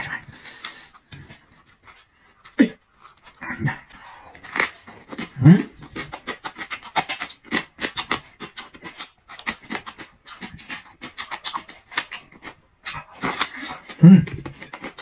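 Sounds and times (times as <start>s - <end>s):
crisp crunching chewing: 0.4s - 15.0s.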